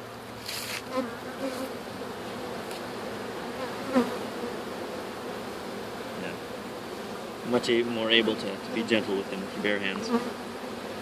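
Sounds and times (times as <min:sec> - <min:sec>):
bee swarm buzzing: 0:00.0 - 0:11.0
single bees buzzing close: 0:00.0 - 0:11.0.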